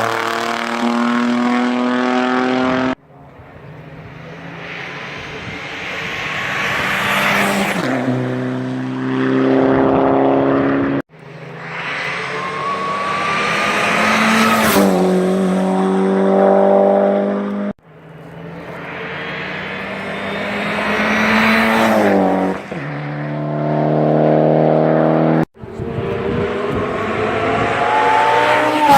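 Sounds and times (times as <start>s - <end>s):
race cars passing at speed: 0.0s - 28.9s.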